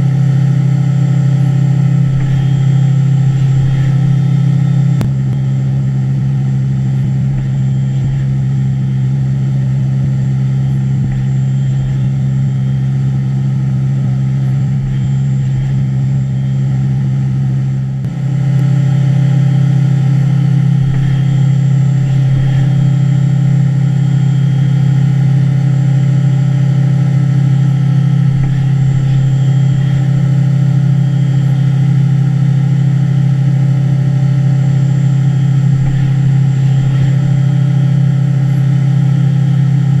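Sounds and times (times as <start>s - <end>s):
cnc mill spindle hum: 0.0s - 40.0s.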